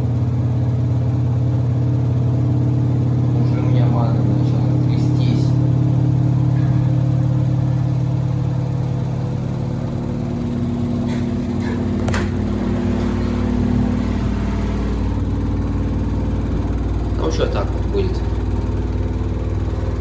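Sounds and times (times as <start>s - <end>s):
washing machine drum spinning: 0.0s - 20.0s.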